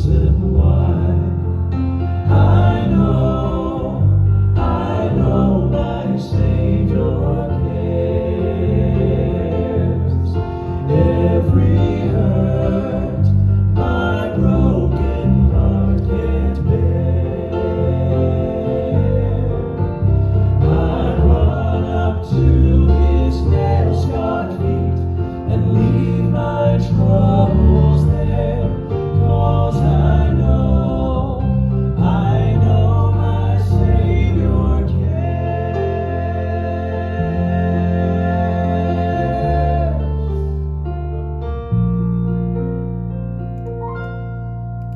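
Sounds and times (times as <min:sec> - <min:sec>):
male vocal quartet singing: 0:00.0 - 0:40.8
instrumental accompaniment: 0:00.2 - 0:44.9.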